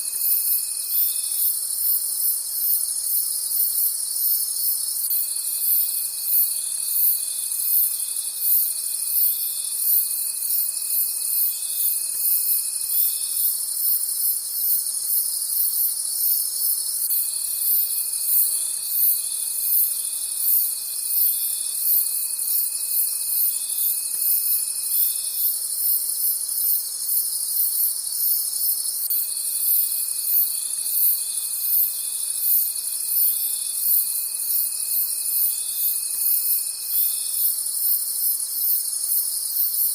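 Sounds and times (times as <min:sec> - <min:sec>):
continuous high insect trill: 0:00.0 - 0:39.9
crickets chirping: 0:00.0 - 0:39.9
low insect tone: 0:00.0 - 0:39.9.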